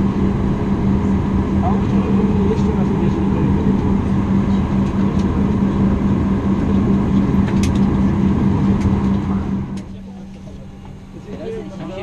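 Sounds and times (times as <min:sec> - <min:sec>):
aircraft cabin rumble: 0:00.0 - 0:12.0
constant low hum: 0:00.0 - 0:12.0.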